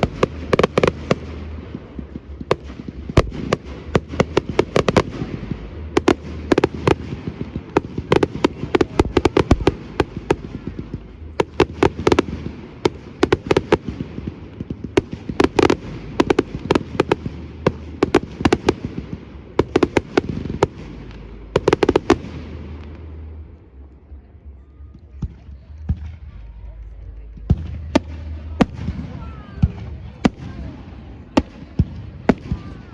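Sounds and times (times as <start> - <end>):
fireworks bangs and crackles: 0.0 - 24.2, 27.4 - 32.9
fireworks rumble: 0.0 - 32.9.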